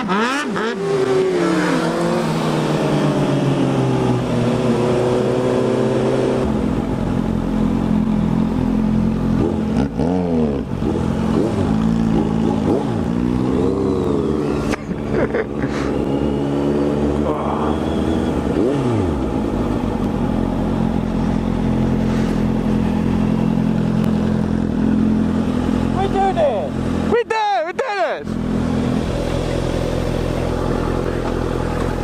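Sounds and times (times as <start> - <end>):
motorcycle engine revving: 0.0 - 27.2, 28.3 - 32.0.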